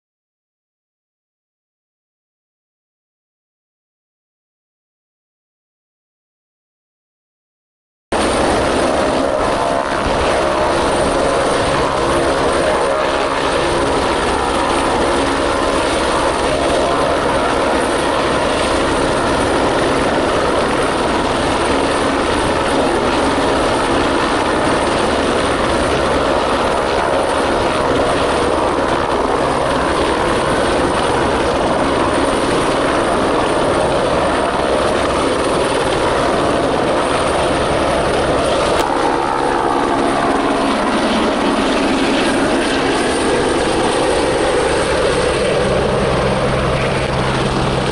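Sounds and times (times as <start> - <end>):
helicopter hovering: 8.2 - 47.9.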